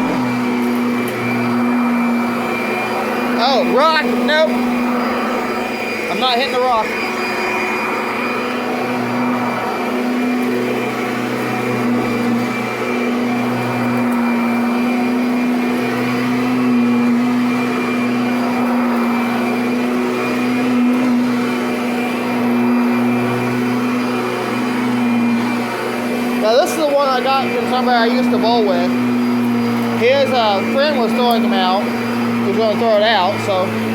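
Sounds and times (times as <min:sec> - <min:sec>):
vacuum cleaner running on carpet: 0:00.0 - 0:33.9.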